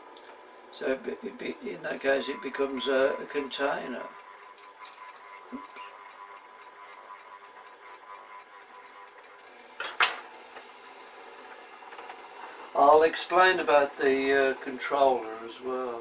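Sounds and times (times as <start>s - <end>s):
model train whirring: 0.5s - 16.0s.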